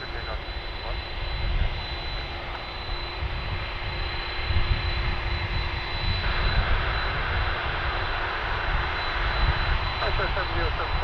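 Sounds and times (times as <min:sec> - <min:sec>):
jet engines at high power: 0:00.0 - 0:11.0.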